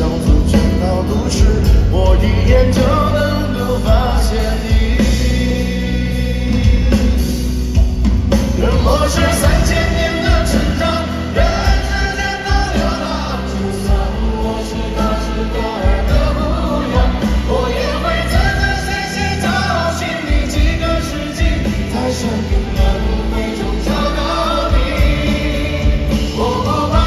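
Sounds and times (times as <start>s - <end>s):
person singing: 0.0s - 7.4s, 8.5s - 27.0s
live band playing: 0.0s - 27.0s.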